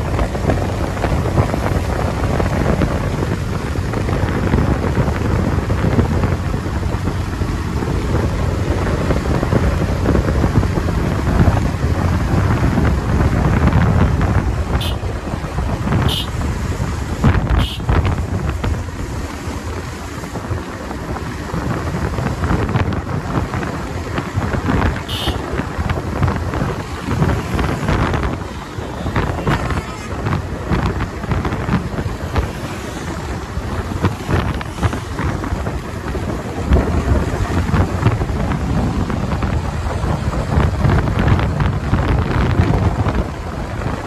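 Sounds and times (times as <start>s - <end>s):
motorcycle engine: 0.0s - 43.8s
wind buffeting microphone: 0.0s - 44.0s.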